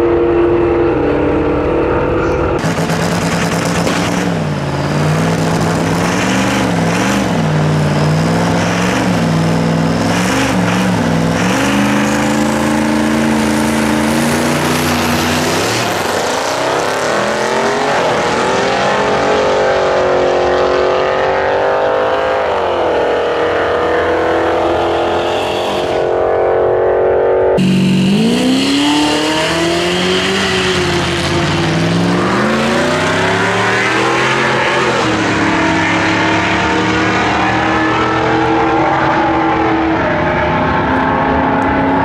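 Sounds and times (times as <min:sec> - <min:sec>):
high whine: 0:00.0 - 0:17.5, 0:24.4 - 0:42.0
diesel truck engine revving: 0:00.0 - 0:26.6, 0:27.5 - 0:42.0.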